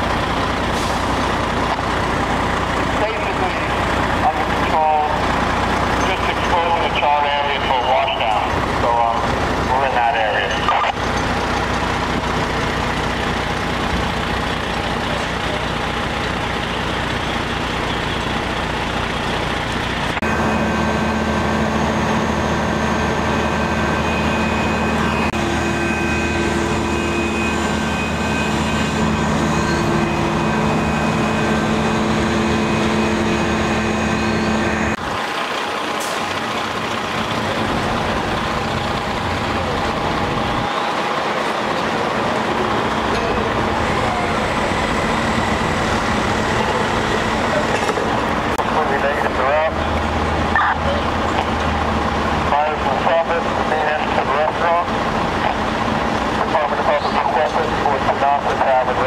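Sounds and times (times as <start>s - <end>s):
fire truck engine droning: 0.0s - 59.0s
steady whine: 0.0s - 59.0s.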